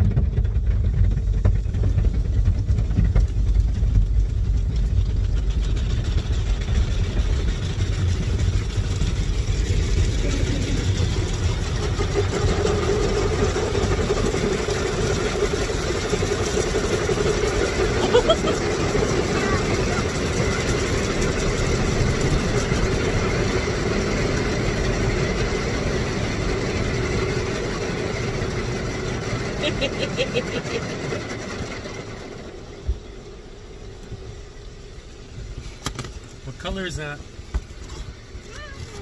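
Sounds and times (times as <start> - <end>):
low rumble in car cabin: 0.0 - 39.0
machine hum: 0.0 - 39.0
water spraying against car: 0.0 - 39.0.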